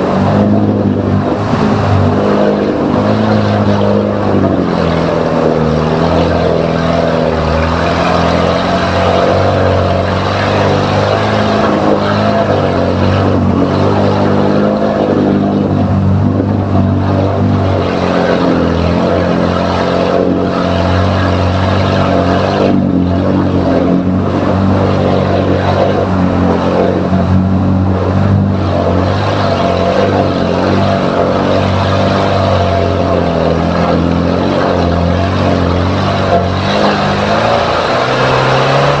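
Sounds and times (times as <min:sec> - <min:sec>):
off-road vehicle engine running: 0:00.0 - 0:39.0.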